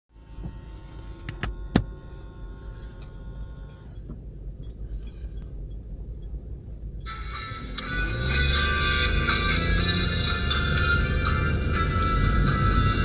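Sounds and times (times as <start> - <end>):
car road and engine rumble: 0.1 - 13.0.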